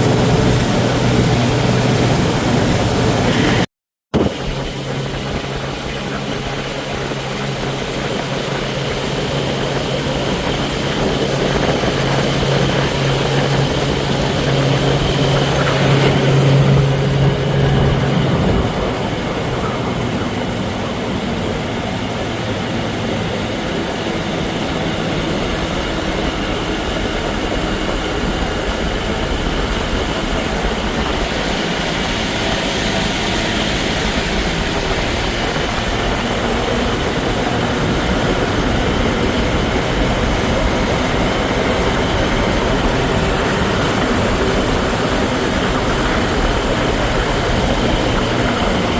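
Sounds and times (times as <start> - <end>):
outboard motor running: 0.0 - 48.9
rush of wind and water: 0.0 - 48.9.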